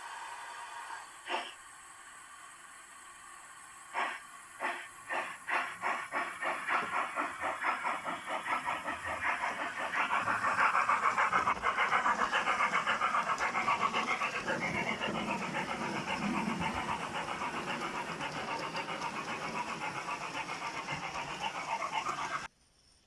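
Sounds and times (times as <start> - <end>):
model train running: 0.0 - 22.5.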